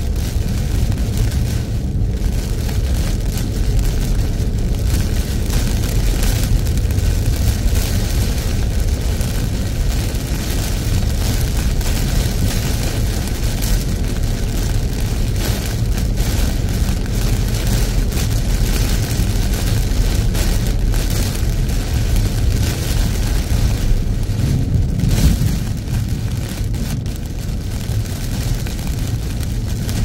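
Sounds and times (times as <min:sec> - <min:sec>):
heavy rain on car roof: 0:00.0 - 0:30.0
road and engine rumble: 0:00.0 - 0:30.0.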